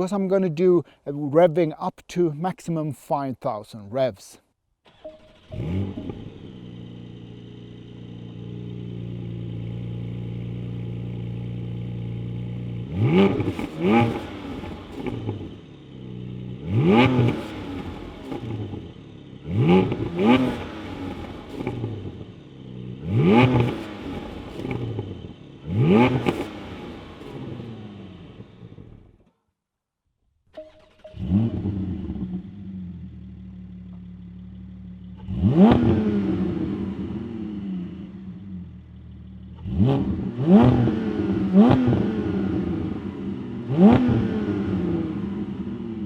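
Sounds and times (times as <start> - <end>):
car engine starting and revving: 4.9 - 29.3, 30.5 - 46.0.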